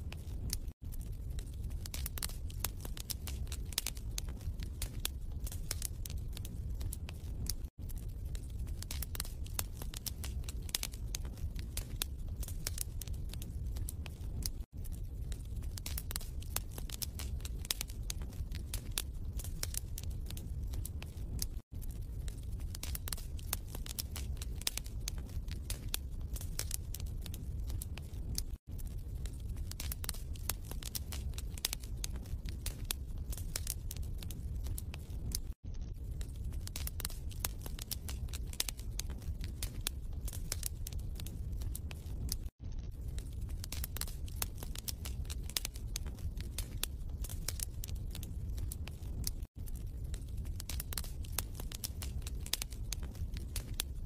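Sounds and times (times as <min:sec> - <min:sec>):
low fire rumble: 0:00.0 - 0:54.0
wood fire crackling: 0:00.0 - 0:54.0.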